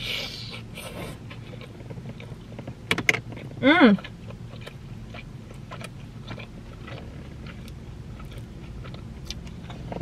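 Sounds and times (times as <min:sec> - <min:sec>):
low steady hum: 0:00.0 - 0:10.0
chewing food: 0:00.8 - 0:10.0.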